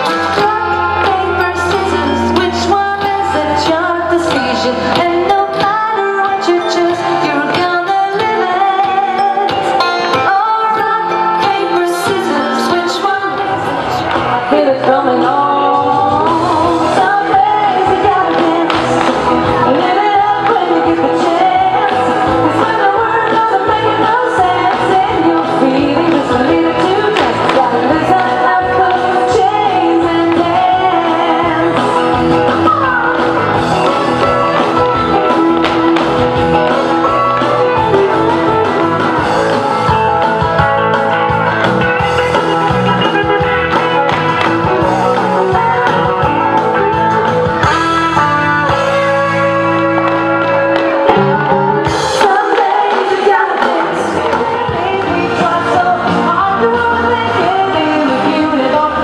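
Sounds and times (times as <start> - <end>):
country dance music: 0.0 - 59.0.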